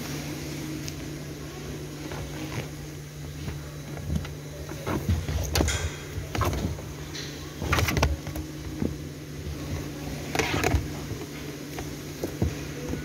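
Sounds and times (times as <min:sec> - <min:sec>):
steady low hum: 0:00.0 - 0:13.0
cable and carpet scraping and rustling: 0:01.9 - 0:13.0.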